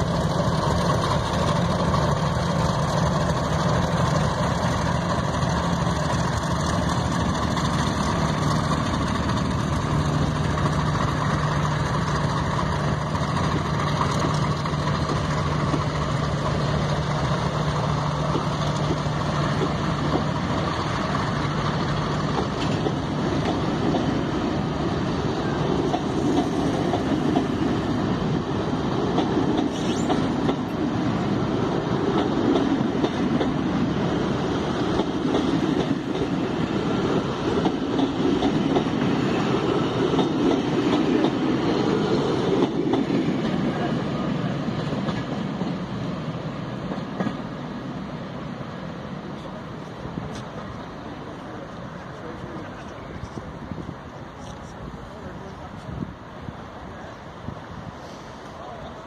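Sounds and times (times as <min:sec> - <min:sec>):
train wheels clattering on rails: 0:00.0 - 0:56.3
diesel locomotive engines droning: 0:00.0 - 0:59.0.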